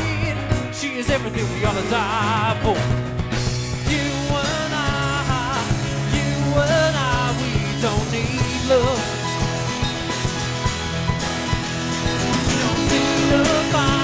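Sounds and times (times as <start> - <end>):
rock song with singer: 0.0 - 14.0.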